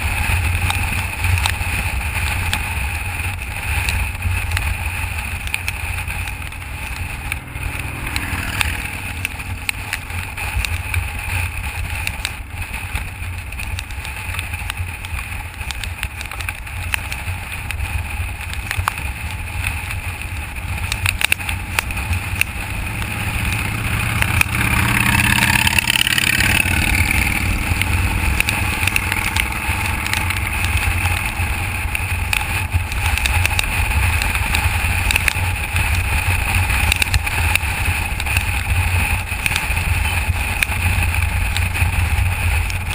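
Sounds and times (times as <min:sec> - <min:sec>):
motorcycle cruising: 0:00.0 - 0:42.9
wind rushing over microphone: 0:00.0 - 0:42.9.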